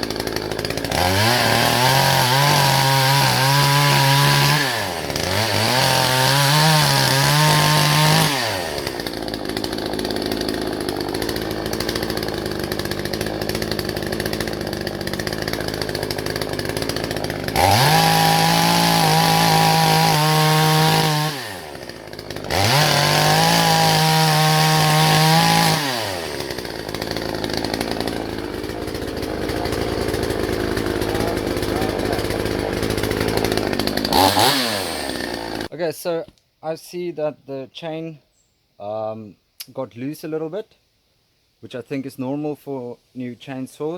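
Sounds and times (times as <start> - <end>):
chainsaw revving and idling: 0.0 - 35.8.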